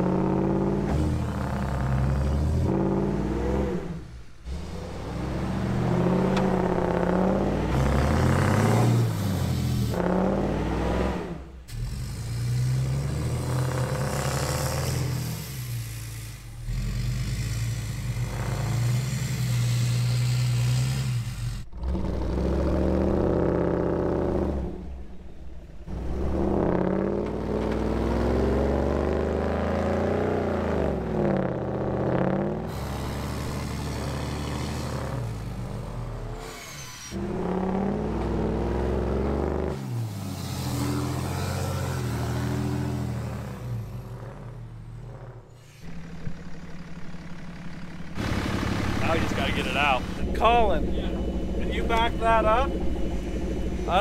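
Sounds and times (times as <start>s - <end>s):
tires spinning in snow: 0.0s - 54.0s
vehicle engines revving: 0.0s - 54.0s.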